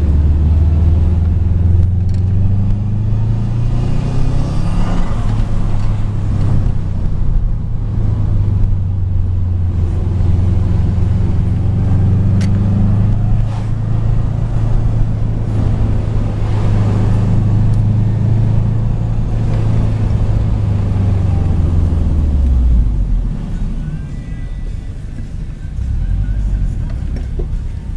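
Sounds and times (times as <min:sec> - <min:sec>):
car engine and tyre drone: 0:00.0 - 0:27.9.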